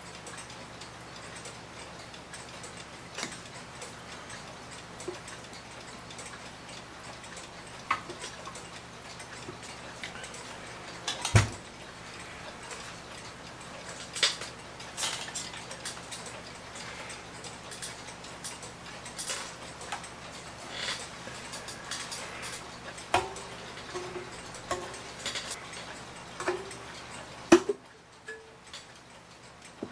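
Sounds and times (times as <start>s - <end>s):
mantel clock ticking: 0.0s - 29.9s.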